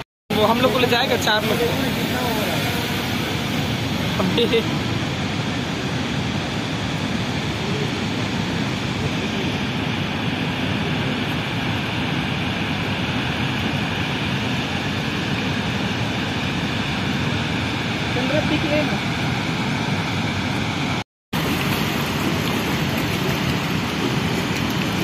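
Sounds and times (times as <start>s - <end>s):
waterfall roaring: 0.3s - 25.0s.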